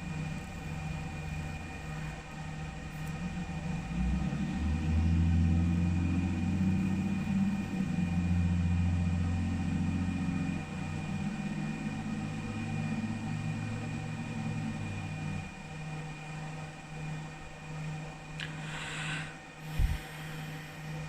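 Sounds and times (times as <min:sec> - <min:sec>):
machine low hum: 0:00.0 - 0:21.0.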